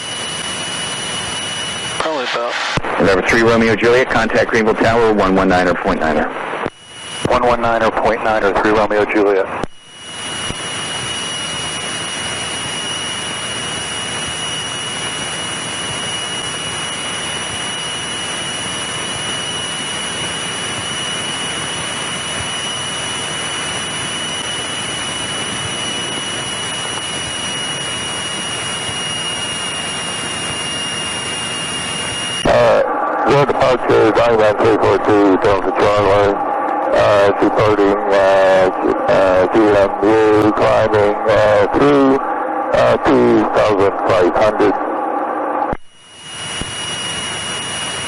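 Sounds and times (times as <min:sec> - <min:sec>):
aircraft engine drone: 0:00.0 - 0:48.0
thin high whine: 0:00.0 - 0:48.0.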